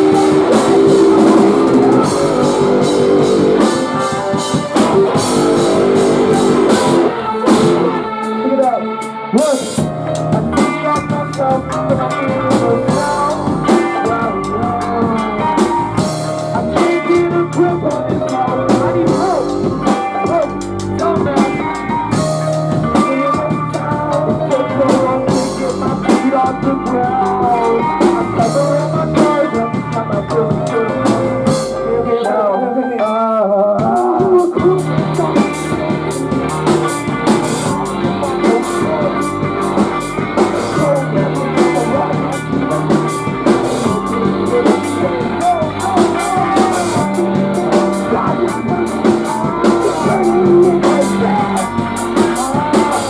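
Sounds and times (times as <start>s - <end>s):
bass guitar: 0.0s - 8.3s, 9.4s - 32.5s, 33.1s - 53.0s
drum kit playing: 0.0s - 32.4s, 33.0s - 53.0s
distorted electric guitars: 0.0s - 53.0s.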